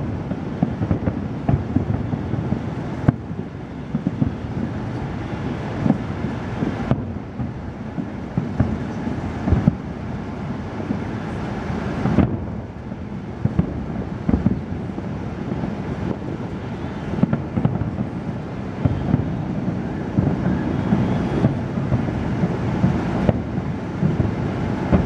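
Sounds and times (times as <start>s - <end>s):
distant fireworks booming: 0.0s - 25.0s.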